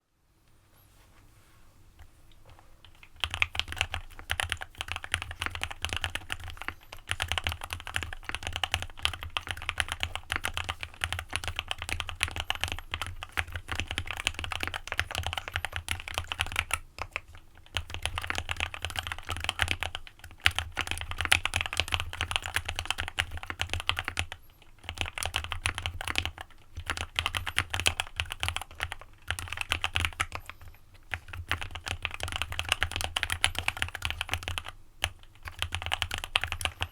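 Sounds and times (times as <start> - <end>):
mechanical keyboard typing: 2.8 - 36.9.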